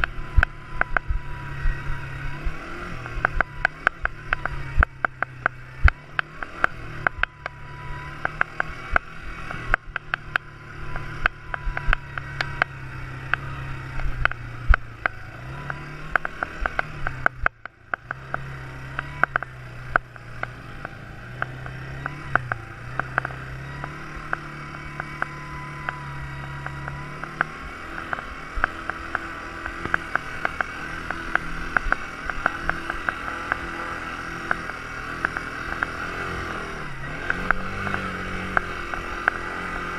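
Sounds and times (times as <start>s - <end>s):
sharp clicks and knocks: 0.0s - 1.2s, 2.4s - 39.9s
quad bike engine: 0.0s - 39.9s.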